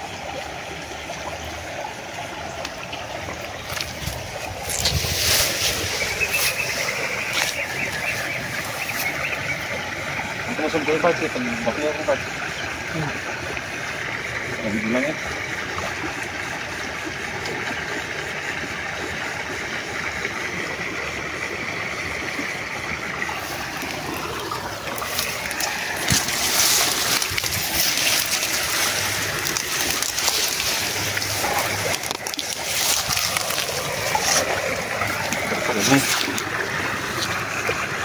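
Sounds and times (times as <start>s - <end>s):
creek water running and splashing: 0.0s - 38.0s.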